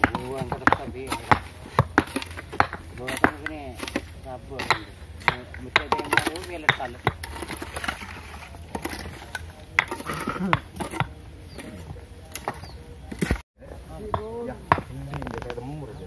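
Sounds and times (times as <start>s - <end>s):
hoe chopping into soil and brick: 0.0s - 13.4s
men talking: 0.0s - 16.0s.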